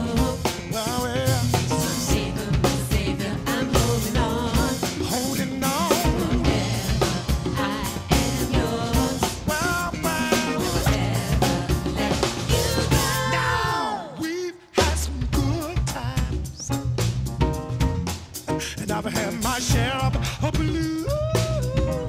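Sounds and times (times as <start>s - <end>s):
bass guitar: 0.0s - 14.0s, 14.8s - 22.0s
grand piano: 0.0s - 14.0s, 16.4s - 22.0s
drum kit: 0.0s - 22.0s.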